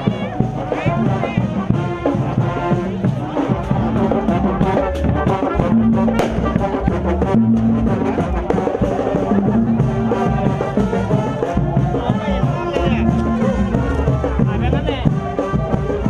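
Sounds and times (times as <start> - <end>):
music with low notes and melody: 0.0 - 16.0.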